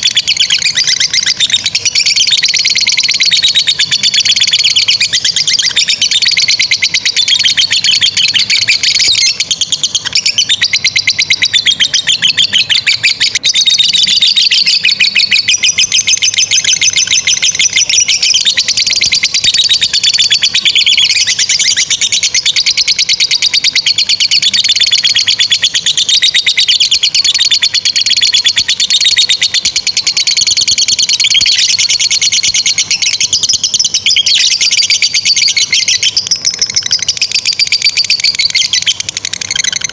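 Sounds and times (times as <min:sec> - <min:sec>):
lovebird chattering shrill notes: 0:00.0 - 0:39.9.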